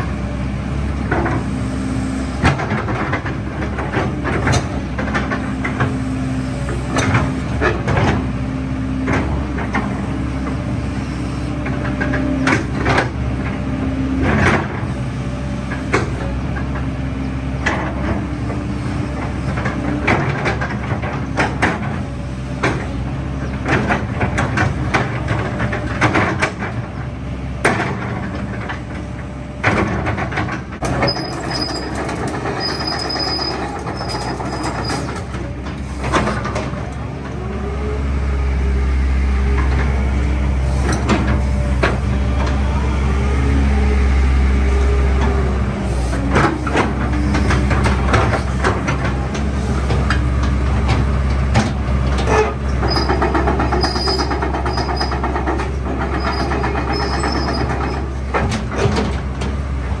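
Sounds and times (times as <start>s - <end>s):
excavator diesel engine running: 0.0s - 60.0s.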